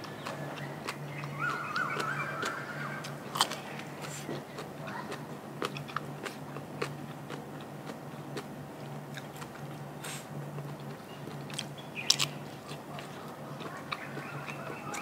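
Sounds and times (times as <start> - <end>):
person chewing and crunching: 0.0 - 15.0.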